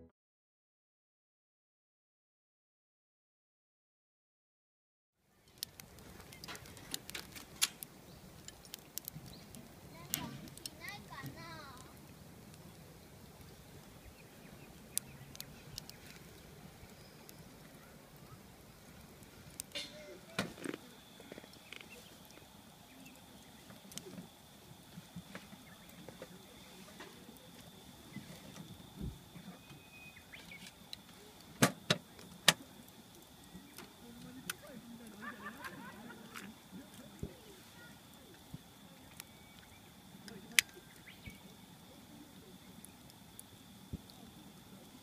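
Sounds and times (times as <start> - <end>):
low steady outdoor hiss: 5.2 - 45.0
wood fire crackling: 5.2 - 45.0
fire popping: 5.3 - 45.0.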